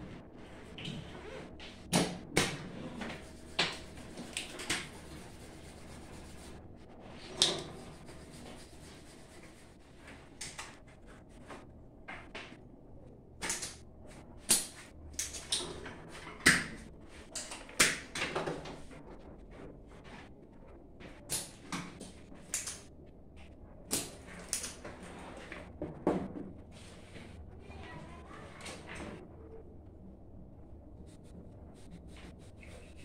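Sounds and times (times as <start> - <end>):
low room hum: 0.0 - 33.0.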